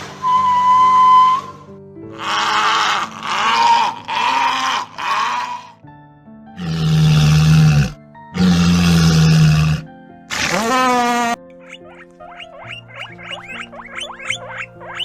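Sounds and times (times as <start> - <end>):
background music: 0.0 - 15.0
animal giving rough calls: 2.1 - 5.8, 6.6 - 15.0.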